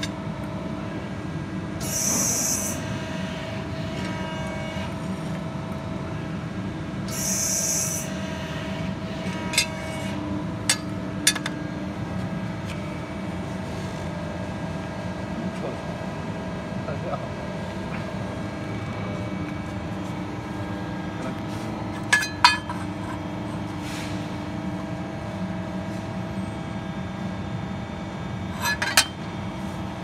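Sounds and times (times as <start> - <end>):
hydraulic hum: 0.0 - 30.0.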